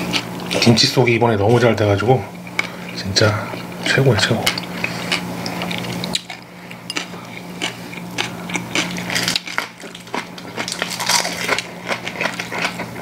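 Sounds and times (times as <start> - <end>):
crunching and chewing cabbage: 0.0 - 1.7, 3.6 - 13.0.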